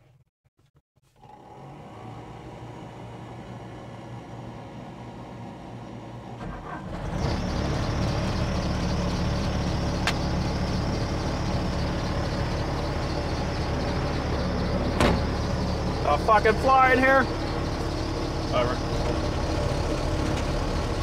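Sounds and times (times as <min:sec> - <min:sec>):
diesel engine running: 0:01.2 - 0:21.0.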